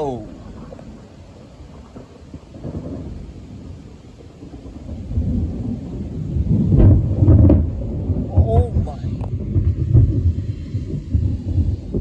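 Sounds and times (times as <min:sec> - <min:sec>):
deep rumbling thunder: 0:00.0 - 0:12.0.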